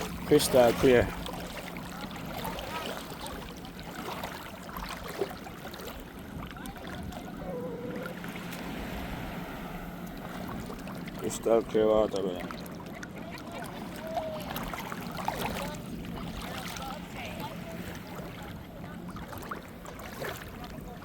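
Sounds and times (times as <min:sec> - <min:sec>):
sea water lapping at shoreline: 0:00.0 - 0:21.0.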